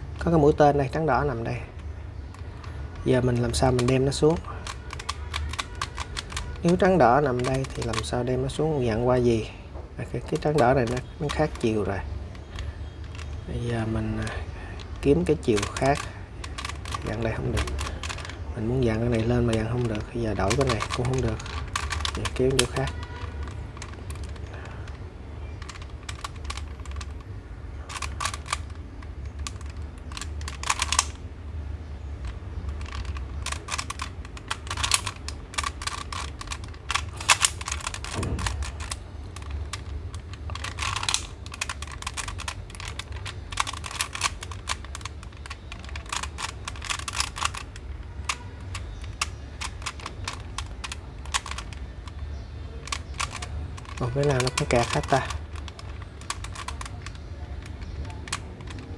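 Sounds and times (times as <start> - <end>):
low steady hum: 0.0 - 58.9
plastic puzzle clicking: 0.0 - 58.9.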